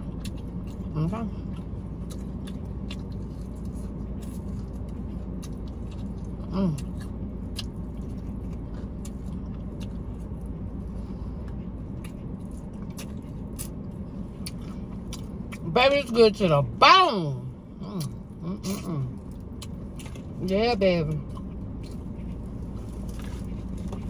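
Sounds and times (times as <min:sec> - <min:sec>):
chewing and mouth clicks: 0:00.0 - 0:16.0, 0:18.0 - 0:20.4, 0:21.1 - 0:24.0
low hum in car cabin: 0:00.0 - 0:24.0.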